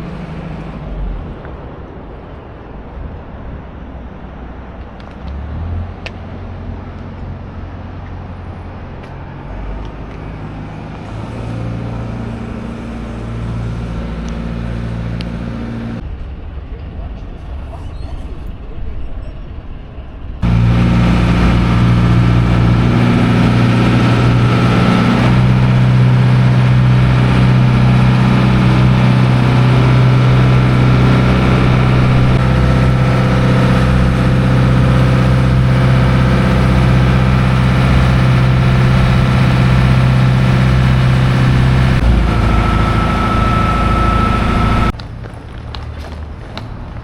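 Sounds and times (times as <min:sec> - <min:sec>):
ferry engine humming: 0:00.0 - 0:47.0.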